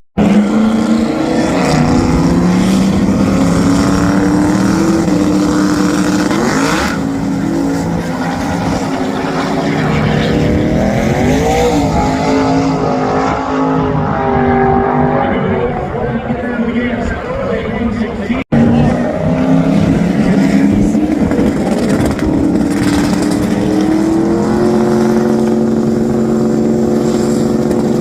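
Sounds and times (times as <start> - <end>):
car engine revving: 0.2 - 17.1, 18.5 - 28.0.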